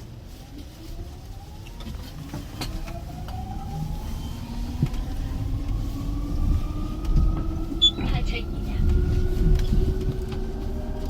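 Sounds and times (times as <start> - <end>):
vehicle accelerating: 0.0 - 11.0.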